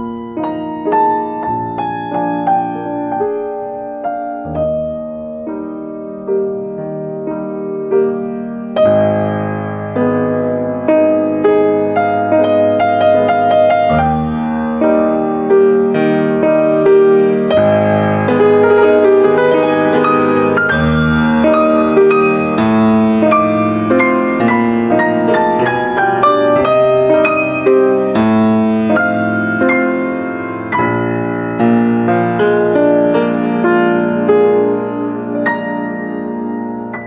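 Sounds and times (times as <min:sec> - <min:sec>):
soft piano music: 0:00.0 - 0:37.0.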